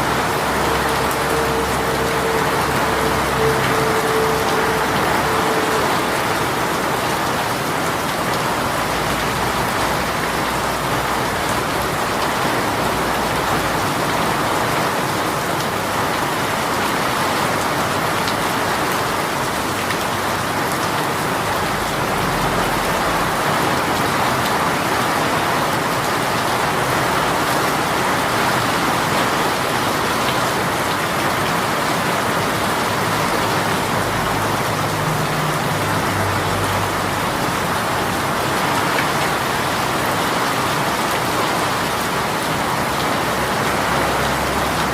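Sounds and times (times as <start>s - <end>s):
rain pouring: 0.0s - 44.9s.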